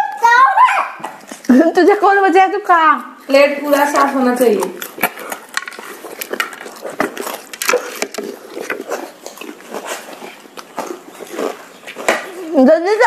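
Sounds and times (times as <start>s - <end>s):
children crunching crisp snacks: 0.0s - 2.0s, 3.6s - 13.0s.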